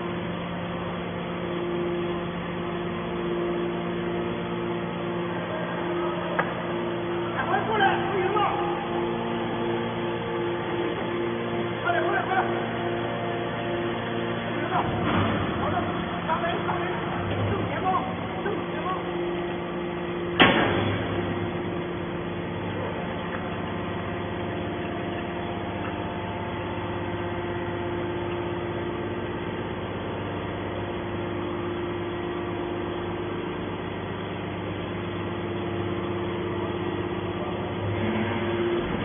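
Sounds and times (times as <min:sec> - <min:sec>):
hydraulic power unit hum: 0:00.0 - 0:39.0.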